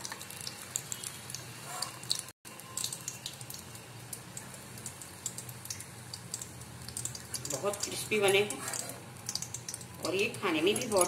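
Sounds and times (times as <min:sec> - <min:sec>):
hot oil crackling and popping: 0:00.0 - 0:11.0.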